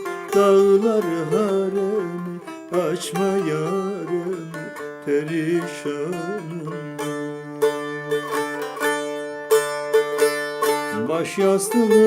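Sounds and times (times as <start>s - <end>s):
person singing: 0.0s - 8.8s, 10.8s - 12.0s
plucked string instrument: 0.0s - 12.0s.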